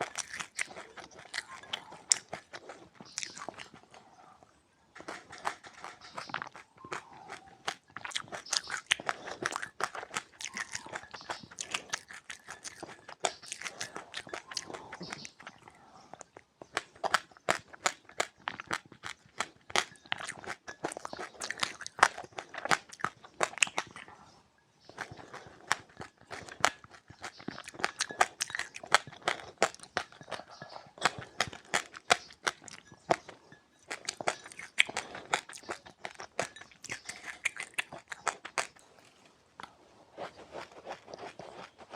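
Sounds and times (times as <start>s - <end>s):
crunching and chewing seeds: 0.0s - 41.9s.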